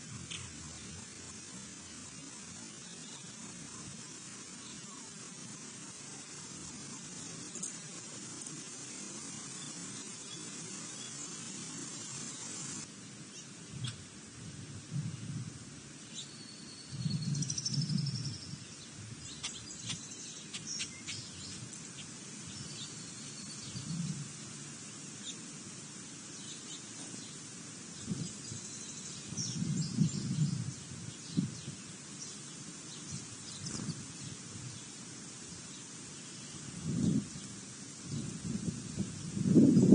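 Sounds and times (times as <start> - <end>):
small birds chirping: 0.0 - 14.0, 16.0 - 25.5, 26.2 - 39.9.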